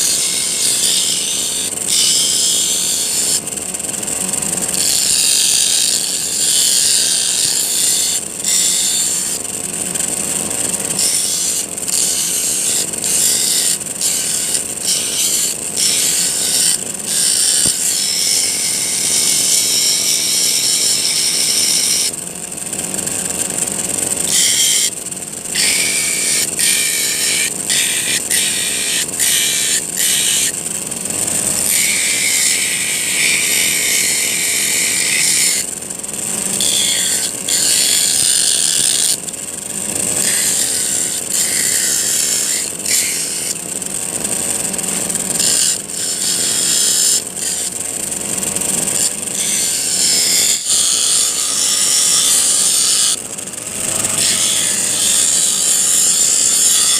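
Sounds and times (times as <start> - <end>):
brush-cutter engine: 0.0 - 56.9
steel file grinding on abrasive disc: 0.0 - 56.9.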